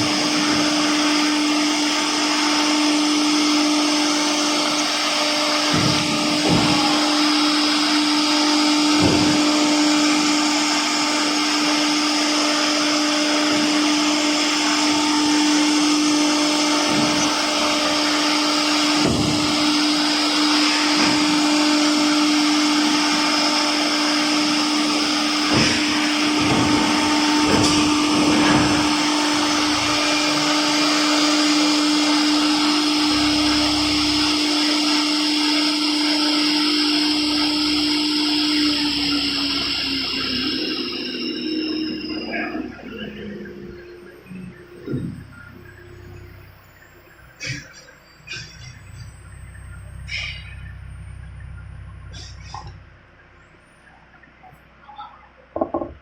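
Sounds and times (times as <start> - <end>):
router bit cutting wood: 0.0 - 46.3
cnc router spindle whining: 0.0 - 54.8.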